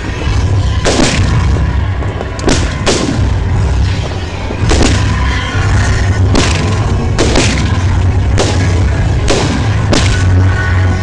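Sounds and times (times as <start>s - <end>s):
low rumble: 0.0s - 11.0s
fireworks bangs: 0.1s - 11.0s.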